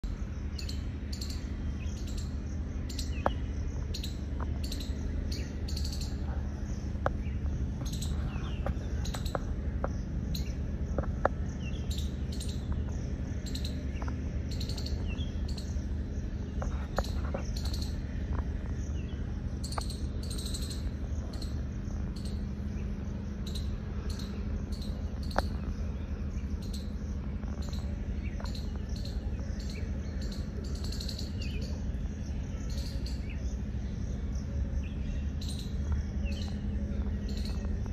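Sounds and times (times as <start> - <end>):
low background hum: 0.0 - 37.9
small birds chirping: 0.0 - 37.9.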